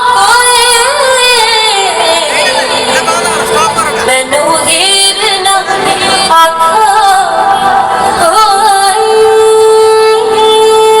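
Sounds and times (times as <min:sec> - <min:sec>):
loud music with singing: 0:00.1 - 0:09.1.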